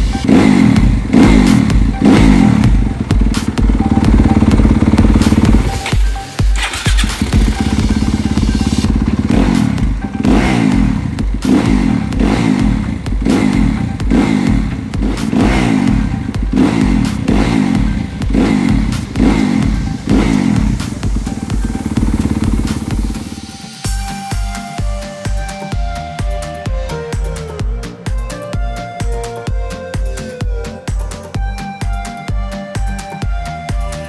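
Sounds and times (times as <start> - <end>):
motorcycle engine running: 0.0 - 32.0
background music: 0.0 - 34.0.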